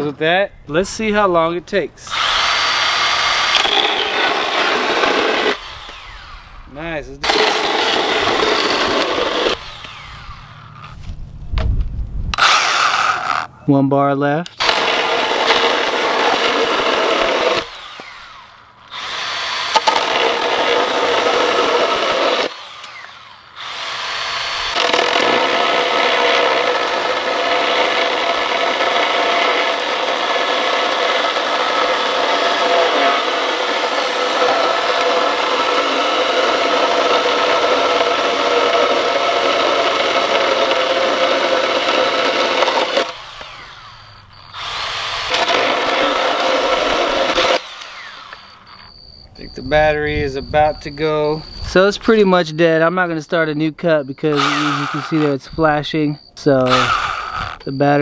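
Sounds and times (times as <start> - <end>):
pruning saw motor whine: 2.0 - 11.3, 12.3 - 13.6, 14.5 - 58.0.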